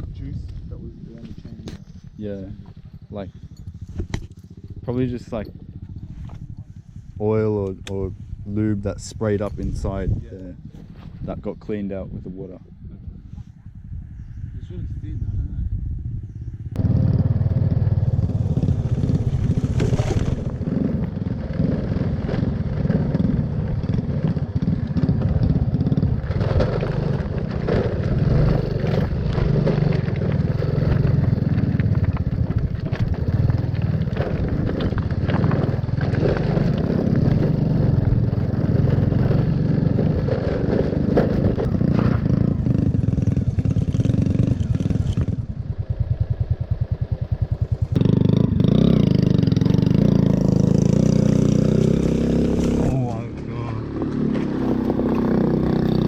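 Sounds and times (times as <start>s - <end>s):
wind: 0.0s - 56.0s
motorbike engine running: 0.2s - 10.1s, 15.8s - 56.0s.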